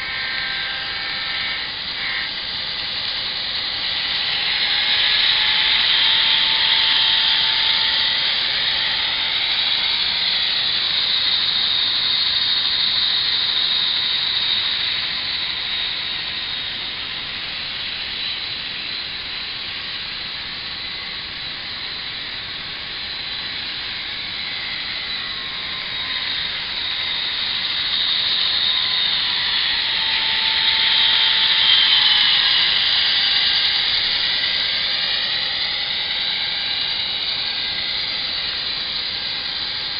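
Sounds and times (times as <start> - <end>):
high whine: 0.0 - 39.9.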